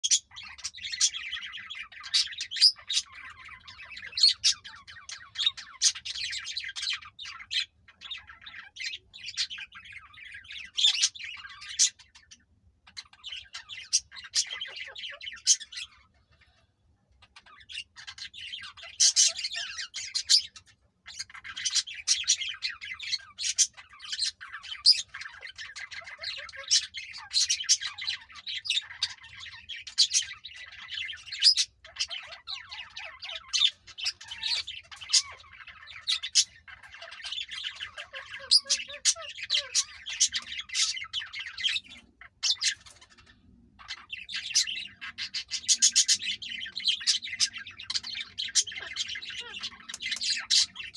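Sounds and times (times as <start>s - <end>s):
parakeet squawks: 0.0s - 50.9s
parakeets chattering: 0.0s - 50.9s.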